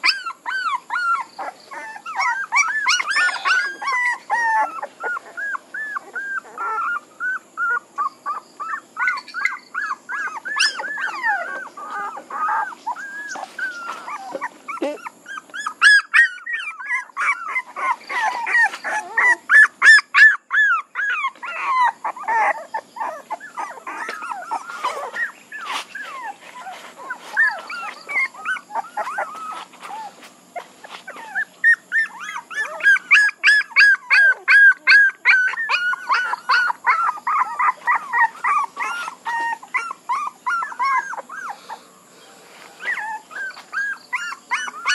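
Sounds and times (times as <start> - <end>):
puppies whimpering and yelping: 0.0 - 44.9.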